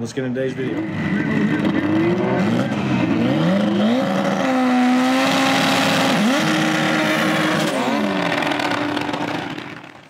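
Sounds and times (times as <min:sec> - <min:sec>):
car engine revving: 0:00.5 - 0:10.0.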